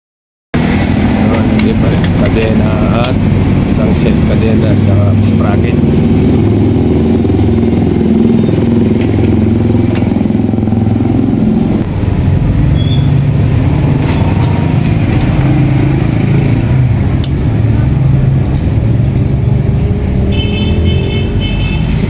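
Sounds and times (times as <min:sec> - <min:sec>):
motorcycle engine running: 0:00.6 - 0:18.4.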